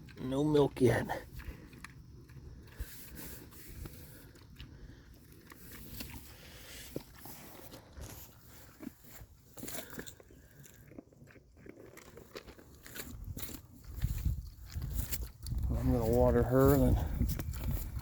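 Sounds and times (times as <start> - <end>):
pig crunching feed: 0.0 - 18.0.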